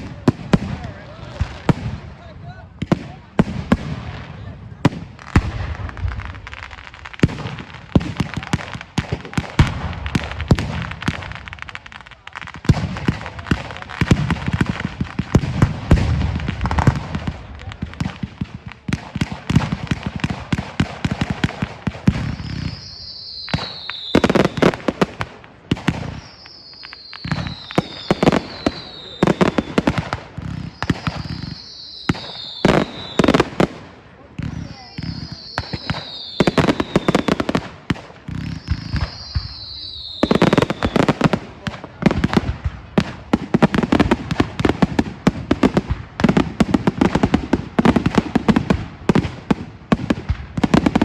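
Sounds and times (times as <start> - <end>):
fireworks cracking and banging: 0.0 - 51.0
whistling fireworks: 0.0 - 51.0.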